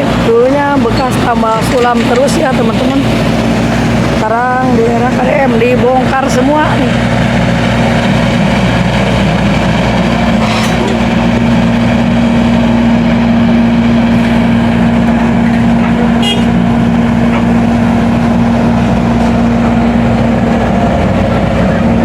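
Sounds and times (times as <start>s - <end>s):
heavy engine humming: 0.0s - 22.0s.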